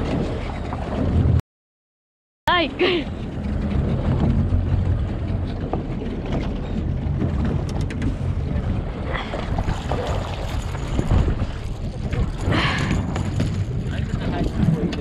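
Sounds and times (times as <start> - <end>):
water sloshing against boat: 0.0 - 1.4, 2.5 - 15.0
wind buffeting microphone: 2.6 - 15.0.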